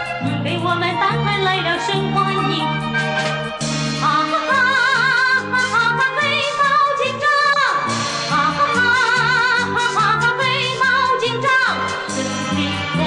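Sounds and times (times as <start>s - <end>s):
musical accompaniment: 0.0s - 13.0s
woman singing: 0.2s - 2.9s, 4.0s - 13.0s.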